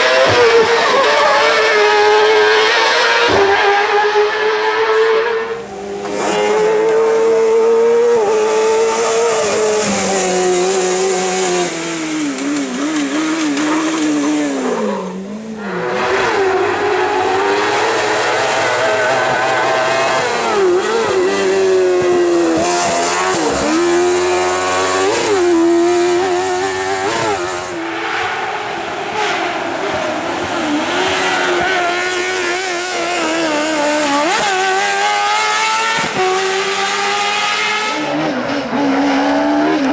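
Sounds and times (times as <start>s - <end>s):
racing buggy engine revving: 0.0s - 39.9s.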